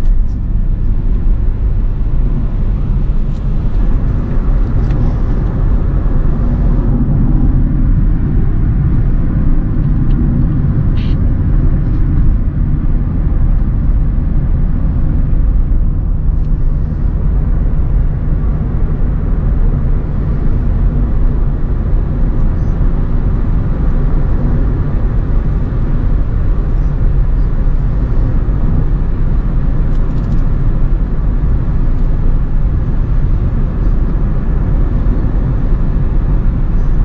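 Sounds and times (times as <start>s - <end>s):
car cabin engine and road rumble: 0.0s - 37.0s.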